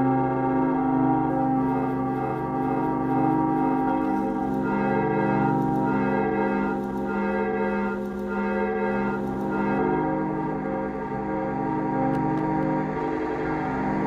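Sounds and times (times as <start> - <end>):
ambient organ-like chords: 0.0 - 14.0.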